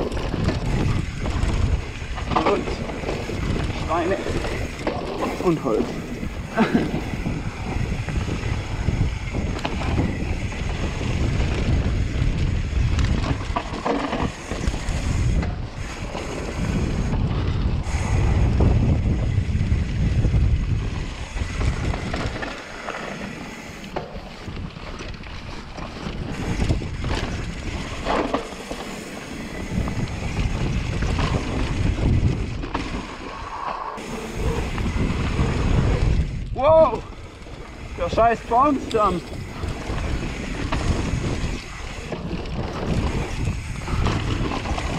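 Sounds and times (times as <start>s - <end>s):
bike knocks and rattles: 0.0s - 33.3s, 34.0s - 44.9s
bike tyres on dirt: 0.0s - 44.9s
wind rumbling over microphone: 0.0s - 44.9s.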